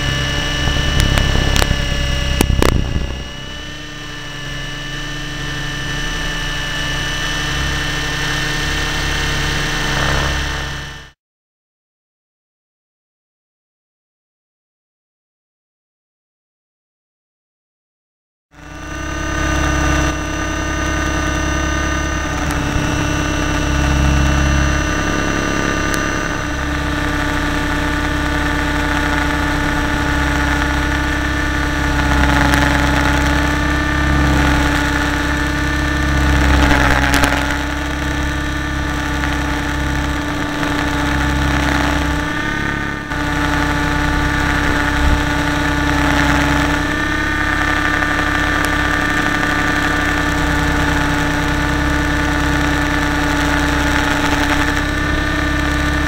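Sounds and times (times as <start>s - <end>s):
rotor low rumble: 0.0s - 11.1s, 18.6s - 56.0s
motor and gear whine: 0.0s - 11.2s, 18.6s - 56.0s.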